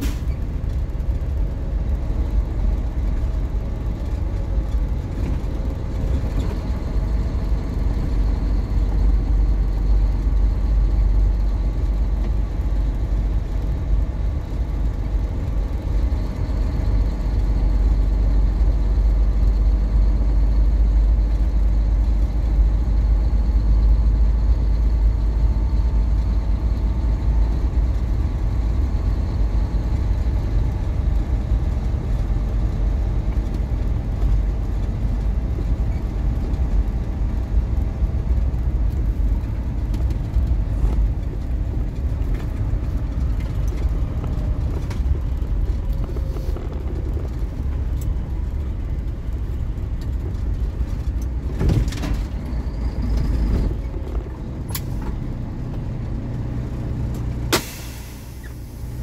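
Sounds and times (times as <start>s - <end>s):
road noise: 0.0s - 59.0s
truck engine rumble: 0.0s - 59.0s.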